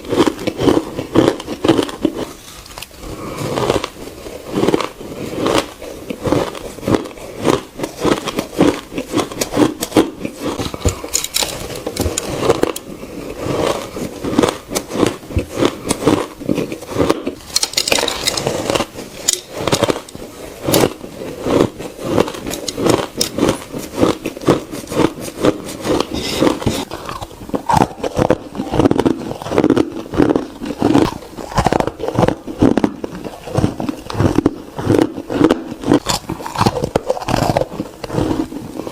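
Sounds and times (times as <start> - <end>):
person crunching ice cubes: 0.0 - 38.9.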